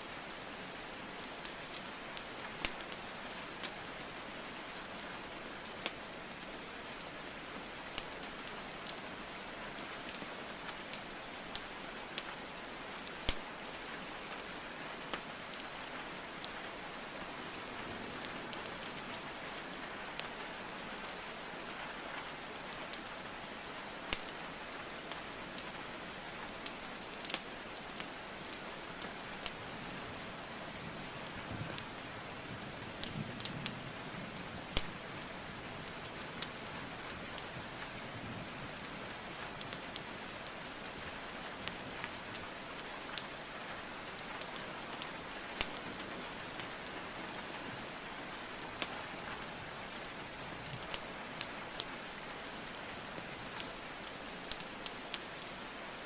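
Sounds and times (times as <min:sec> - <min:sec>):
rainfall hiss: 0:00.0 - 0:56.0
burning logs crackling and popping: 0:00.3 - 0:56.0.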